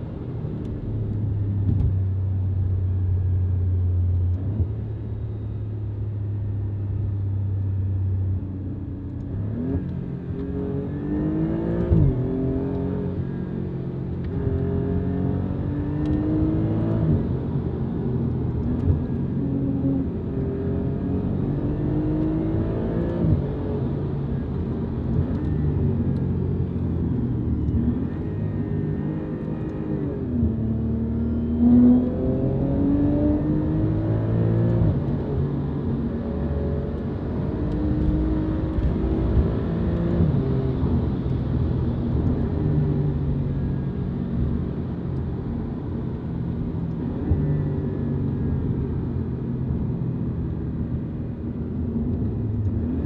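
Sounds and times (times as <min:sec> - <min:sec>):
car engine drone and accelerations: 0:00.0 - 0:53.0.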